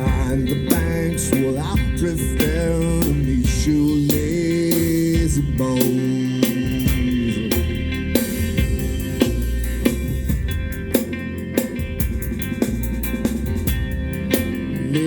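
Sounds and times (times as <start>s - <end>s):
bass guitar: 0.0s - 15.0s
drums with sharp hits: 0.0s - 15.0s
electric guitar: 0.0s - 15.0s.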